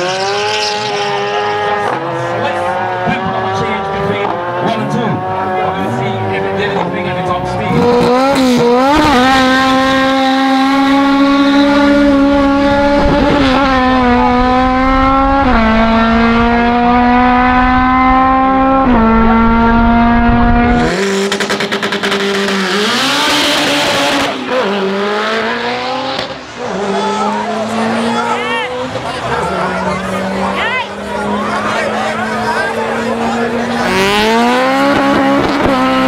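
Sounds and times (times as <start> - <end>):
race car engine accelerating: 0.0 - 36.0
second race car engine approaching: 0.0 - 36.0.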